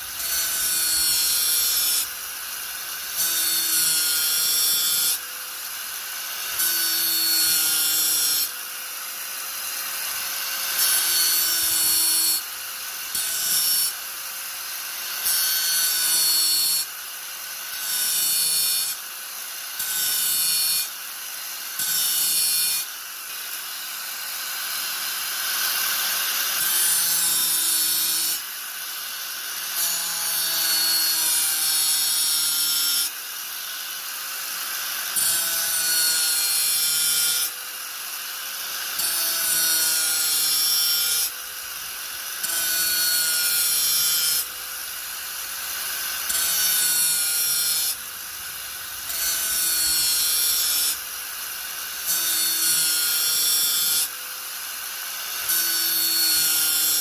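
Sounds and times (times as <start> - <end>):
angle grinder grinding: 0.0 - 28.6, 29.2 - 57.0.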